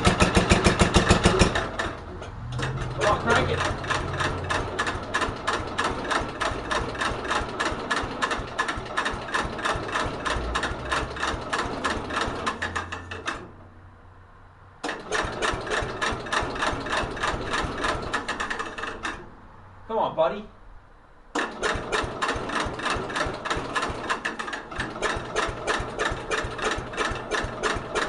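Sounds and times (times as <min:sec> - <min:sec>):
tractor engine cranking: 0:00.0 - 0:13.8, 0:14.8 - 0:19.5, 0:21.3 - 0:28.0.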